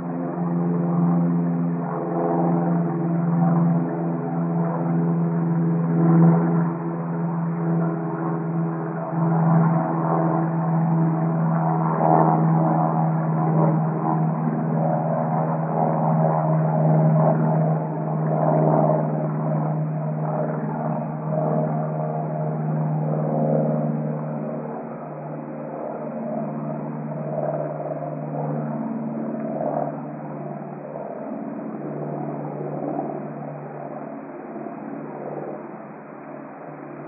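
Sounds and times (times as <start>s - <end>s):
distant airplane droning: 0.0s - 37.0s.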